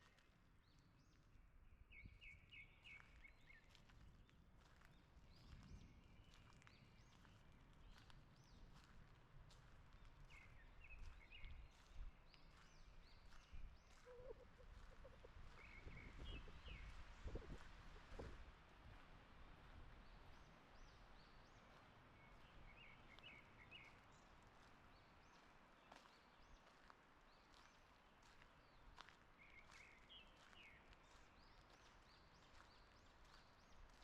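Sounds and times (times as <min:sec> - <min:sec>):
footsteps on forest path: 0:03.2 - 0:34.0.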